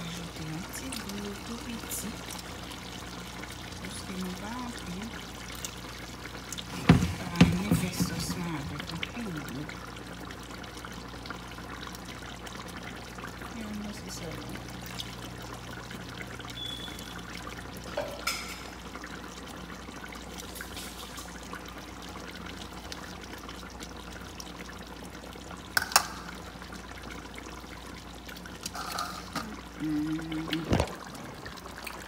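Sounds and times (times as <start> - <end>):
pot simmering and bubbling: 0.0 - 32.0.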